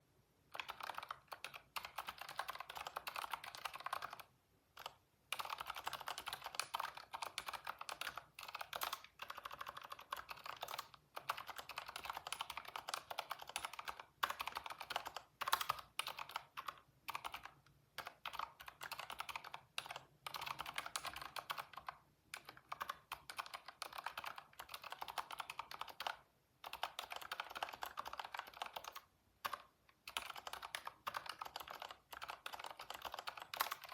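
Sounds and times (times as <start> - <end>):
typing on computer keyboard: 0.5 - 33.9.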